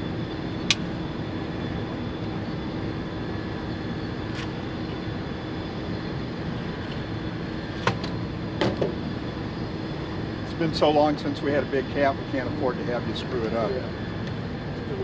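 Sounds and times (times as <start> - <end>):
steady engine hum: 0.0 - 15.0.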